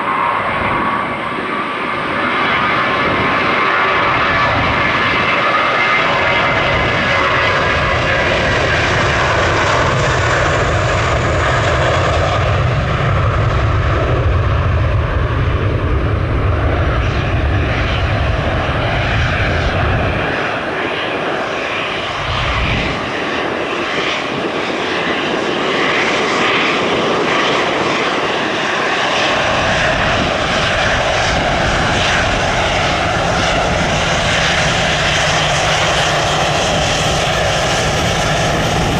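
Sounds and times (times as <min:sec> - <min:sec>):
jet engine deep rumble: 0:00.0 - 0:38.9
jet engine high whine: 0:00.0 - 0:38.9.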